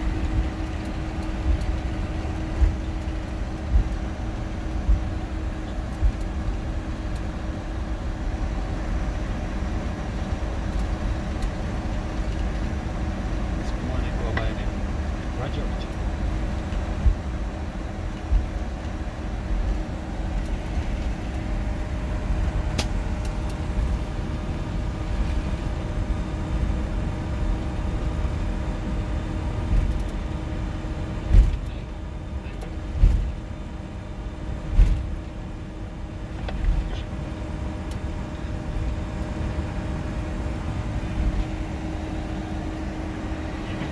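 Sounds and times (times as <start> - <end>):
aircraft cockpit hum: 0.0 - 43.9.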